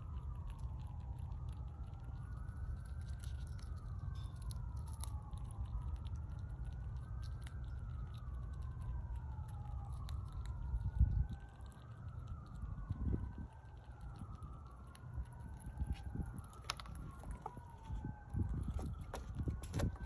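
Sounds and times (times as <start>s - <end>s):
faint siren wailing: 0.0s - 20.0s
low steady rumble: 0.0s - 20.0s
squirrel chewing a nut: 0.0s - 20.0s.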